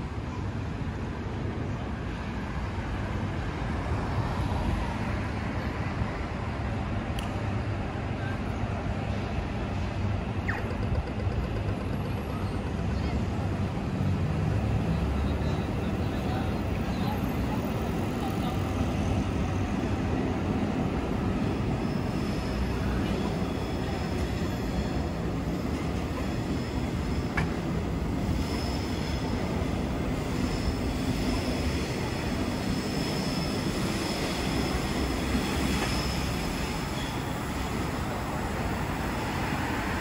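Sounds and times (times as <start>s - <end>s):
low rumble of traffic: 0.0s - 40.0s.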